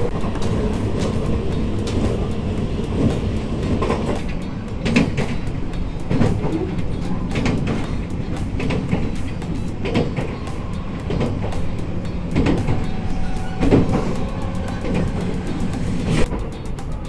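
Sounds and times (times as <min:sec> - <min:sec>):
train low rumble: 0:00.0 - 0:17.0
wheels clacking on rails: 0:00.0 - 0:17.0.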